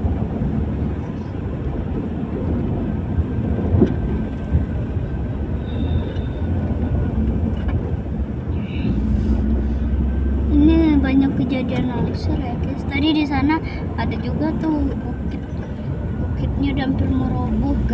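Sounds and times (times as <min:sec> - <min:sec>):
car road noise rumble: 0:00.0 - 0:17.9.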